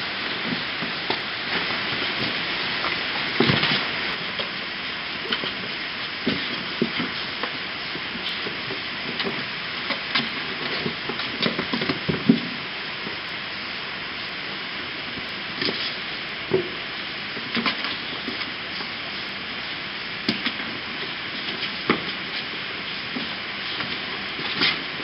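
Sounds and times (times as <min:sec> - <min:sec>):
rain hissing: 0:00.0 - 0:11.7, 0:12.4 - 0:25.0.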